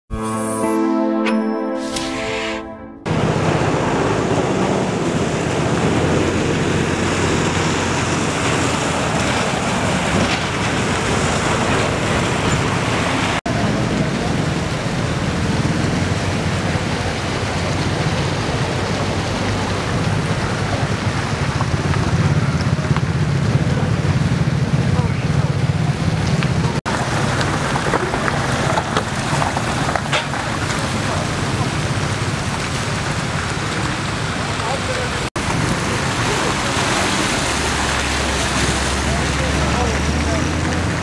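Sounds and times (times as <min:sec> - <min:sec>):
road traffic: 0:01.9 - 0:41.0
low hum of engines: 0:03.1 - 0:41.0
running floodwater: 0:03.1 - 0:41.0.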